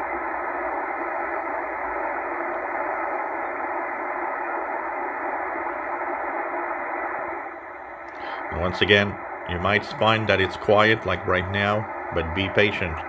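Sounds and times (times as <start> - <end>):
radio band noise hiss: 0.0 - 13.0.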